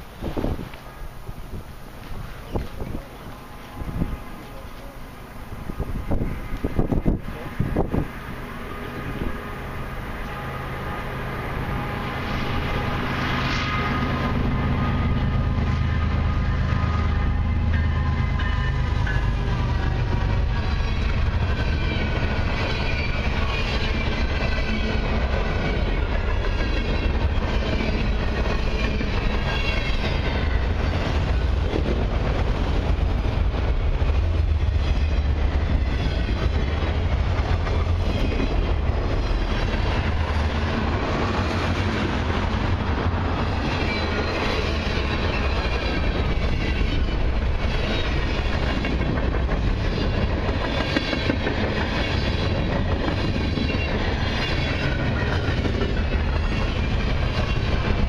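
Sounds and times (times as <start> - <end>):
train wheels rumbling over rails: 0.0 - 58.0.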